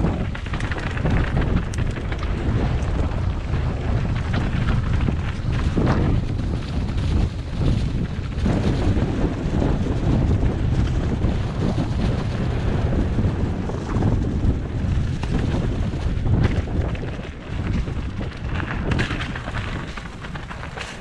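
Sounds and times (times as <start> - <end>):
bike knocking and rattling: 0.0 - 21.0
bike tyres rumbling on dirt: 0.0 - 21.0
wind buffeting microphone: 0.0 - 21.0.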